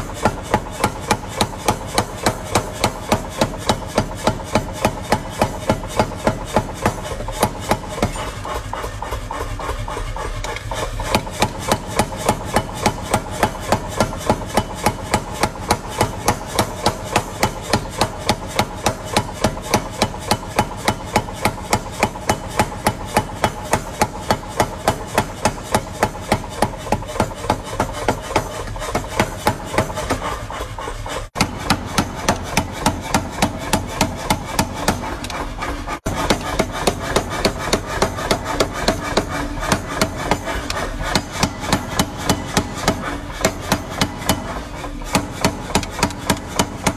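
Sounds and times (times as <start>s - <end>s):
machine running steadily: 0.0s - 46.9s
power hammer pounding steel: 0.0s - 46.9s.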